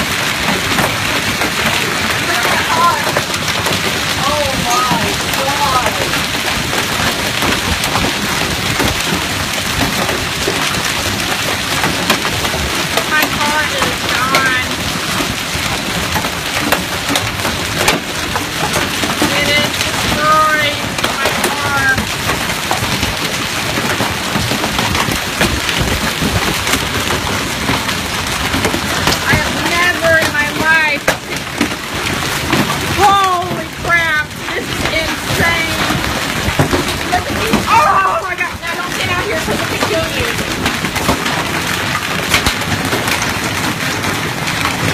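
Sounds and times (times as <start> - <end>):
hail and rain pelting: 0.0 - 44.9.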